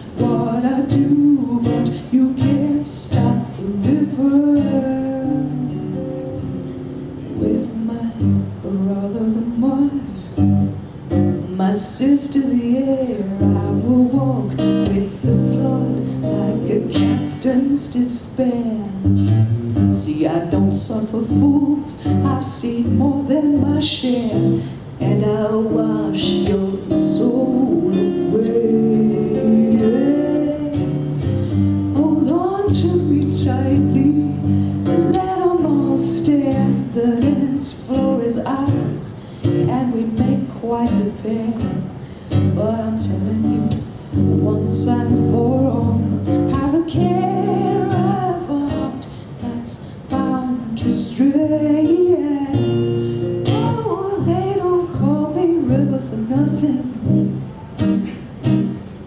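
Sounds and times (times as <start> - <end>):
woman singing: 0.0 - 6.4, 7.3 - 57.5
acoustic guitar strumming: 0.0 - 59.0.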